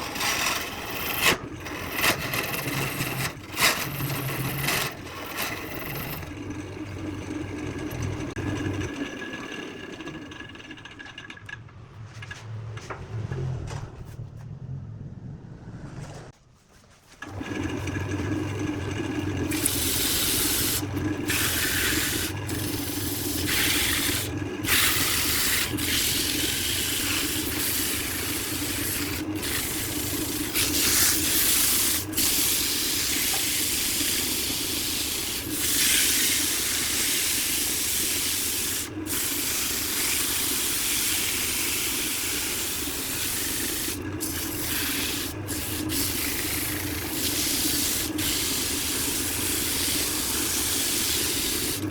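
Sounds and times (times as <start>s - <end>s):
workshop machine humming: 0.0s - 16.3s, 17.2s - 51.9s.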